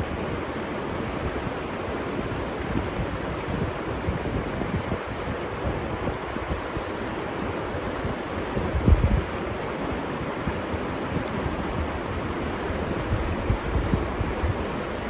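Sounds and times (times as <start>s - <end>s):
river water rushing: 0.0s - 15.0s
wind on microphone: 0.0s - 15.0s.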